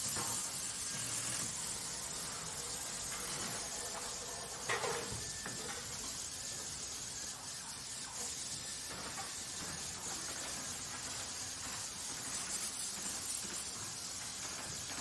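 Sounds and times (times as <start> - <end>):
hissing factory ambience: 0.0 - 15.0.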